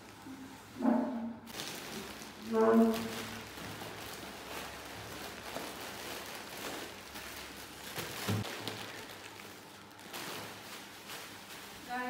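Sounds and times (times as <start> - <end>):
plastic bags rustling: 1.5 - 12.0.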